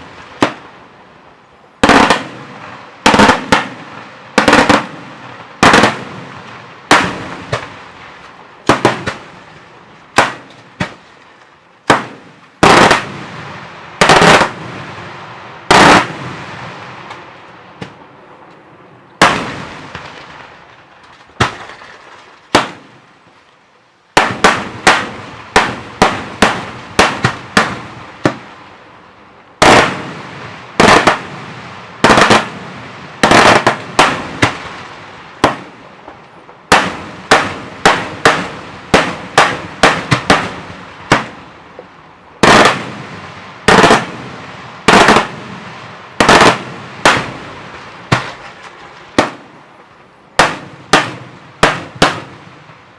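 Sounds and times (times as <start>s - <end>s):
fireworks bursts and bangs: 0.0s - 0.8s, 1.8s - 18.0s, 19.2s - 23.1s, 24.1s - 28.6s, 29.6s - 52.8s.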